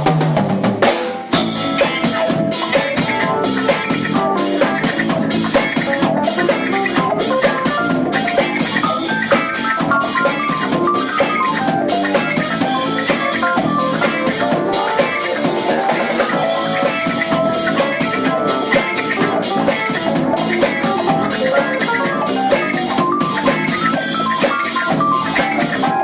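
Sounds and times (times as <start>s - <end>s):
drum kit beat: 0.0s - 26.0s
electric guitar: 0.0s - 26.0s
keyboards: 0.0s - 26.0s.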